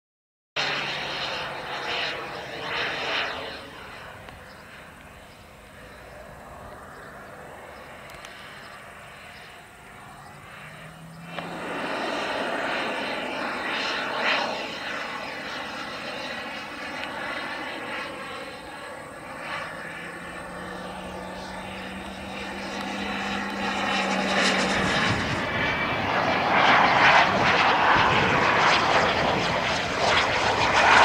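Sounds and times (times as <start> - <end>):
model jet turbine whine: 0.6 - 31.0.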